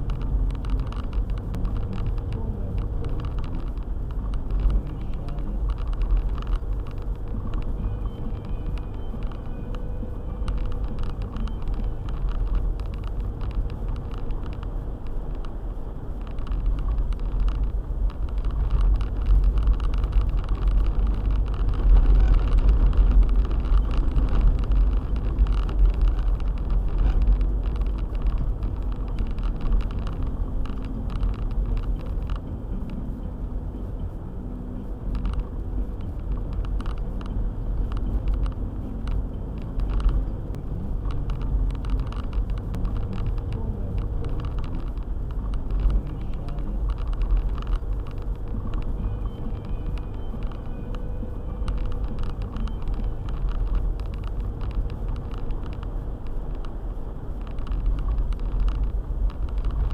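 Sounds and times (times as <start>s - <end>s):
small ticks and knocks: 0.0s - 33.0s, 34.8s - 59.9s
car engine and tyre rumble: 0.0s - 59.9s.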